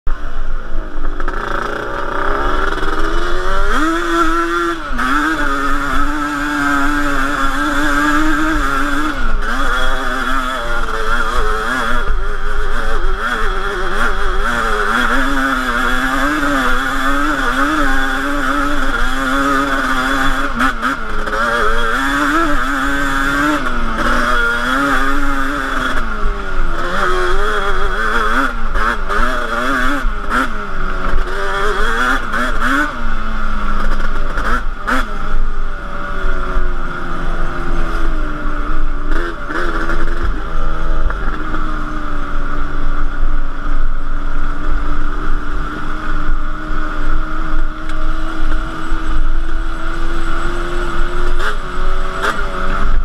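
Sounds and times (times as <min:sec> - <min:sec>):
two-stroke engine revving: 0:00.2 - 0:53.0.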